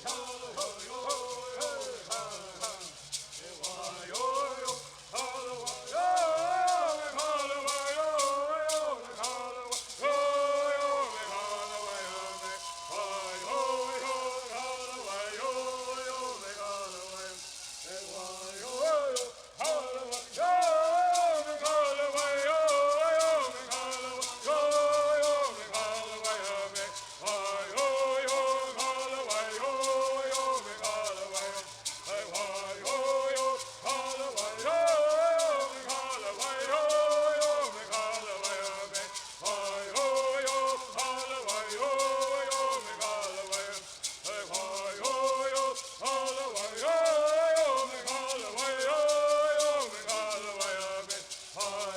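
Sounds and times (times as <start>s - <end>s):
gourd rattles shaken: 0.0s - 51.9s
singers chanting together: 0.0s - 51.9s.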